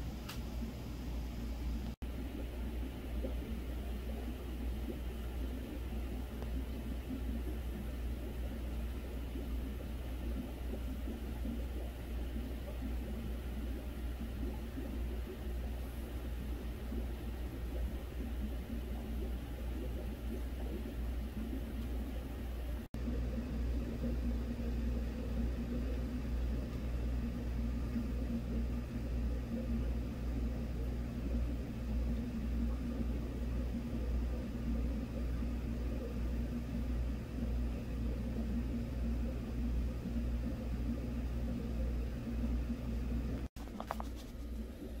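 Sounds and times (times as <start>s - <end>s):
aquarium filters bubbling: 0.0s - 45.0s.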